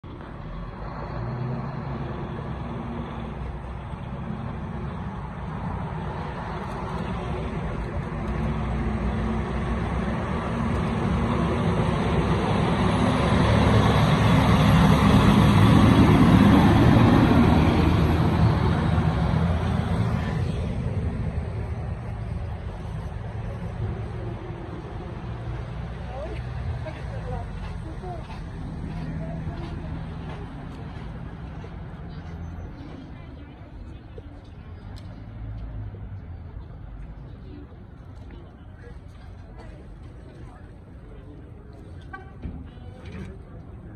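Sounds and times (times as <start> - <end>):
diesel truck engine passing: 0.0 - 37.2
traffic: 0.0 - 43.9.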